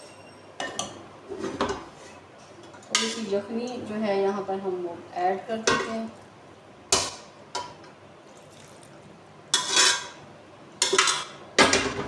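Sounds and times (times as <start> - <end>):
faint sizzle of food: 0.0 - 10.2.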